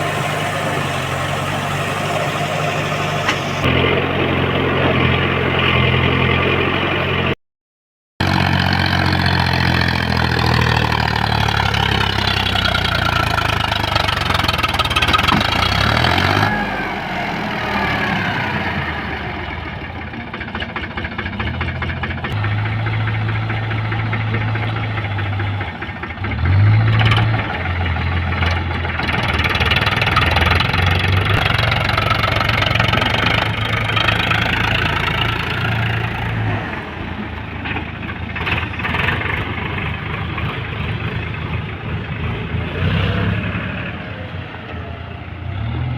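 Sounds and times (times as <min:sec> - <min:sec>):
backhoe diesel engine working: 0:00.0 - 0:07.4, 0:08.2 - 0:45.9.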